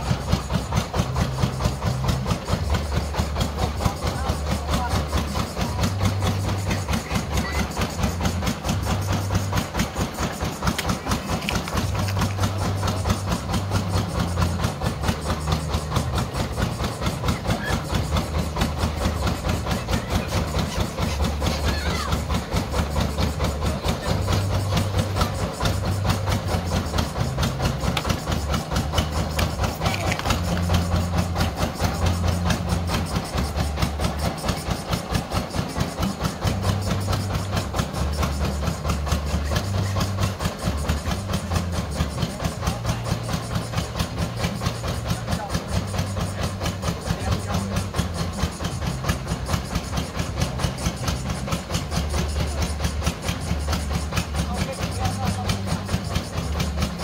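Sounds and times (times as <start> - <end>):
drilling rig engine chugging: 0.0 - 57.0.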